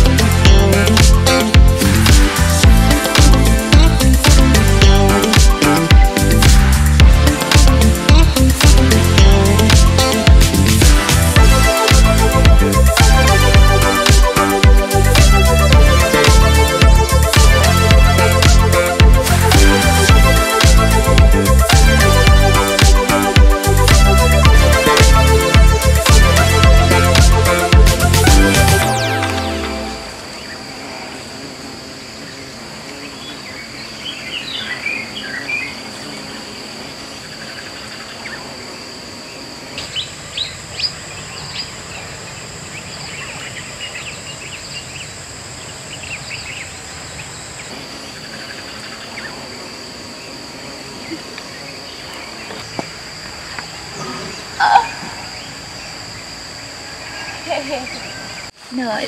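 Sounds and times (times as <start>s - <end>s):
higher insect trill: 0.0s - 59.0s
insect trill: 0.0s - 59.0s.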